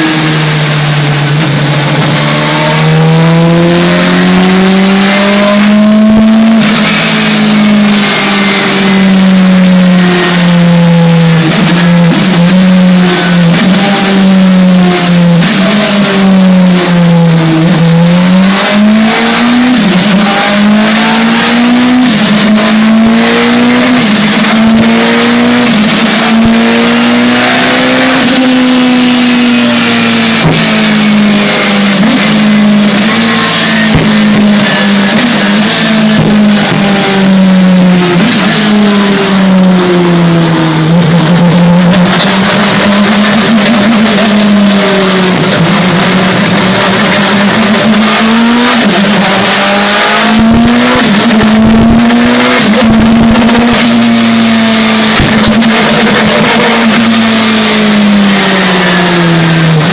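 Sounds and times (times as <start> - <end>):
engine revving under load: 0.0 - 59.9
engine misfire stutters: 11.3 - 59.9.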